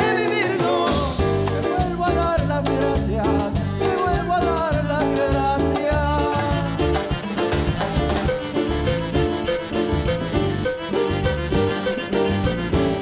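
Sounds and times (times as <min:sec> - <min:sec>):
live band playing folk-pop: 0:00.0 - 0:13.0.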